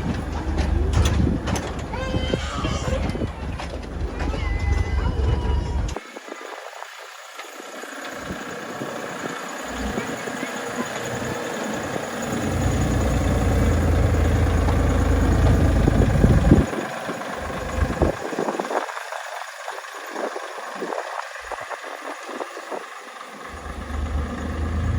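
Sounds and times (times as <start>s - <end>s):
locomotive engine rumble: 0.0s - 6.0s, 6.6s - 24.9s.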